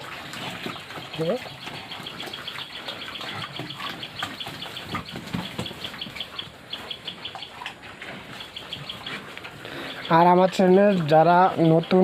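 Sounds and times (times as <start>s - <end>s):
pigs grunting: 0.0s - 12.0s
steady high chirping: 0.7s - 12.0s.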